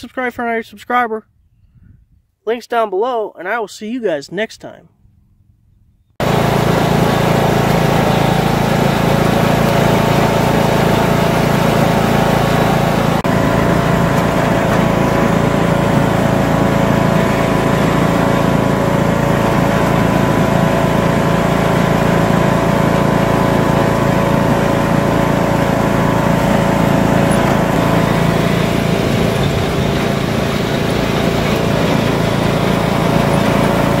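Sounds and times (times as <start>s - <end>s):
lawn tractor engine running: 6.2s - 34.0s.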